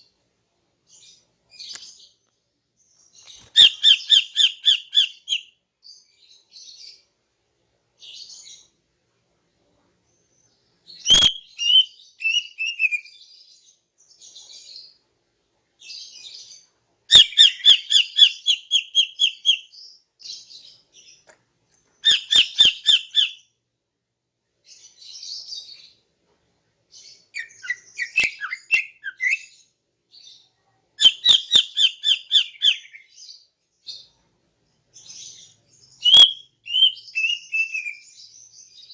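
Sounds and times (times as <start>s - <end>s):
bird chirping: 0.8s - 7.1s, 10.1s - 15.0s, 15.8s - 23.6s, 24.6s - 26.0s, 26.9s - 38.9s.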